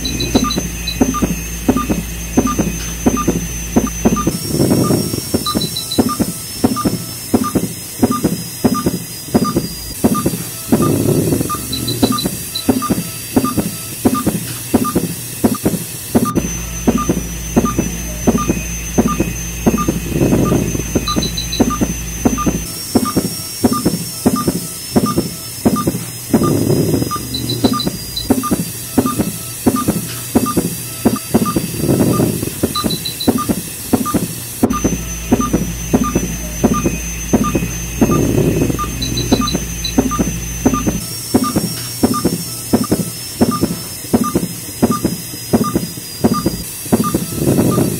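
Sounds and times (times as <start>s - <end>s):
short high beeps: 0.0s - 15.1s, 16.3s - 47.9s
low motor hum: 0.0s - 15.6s, 16.2s - 47.9s
ultrasonic dental scaler whine: 0.0s - 47.9s.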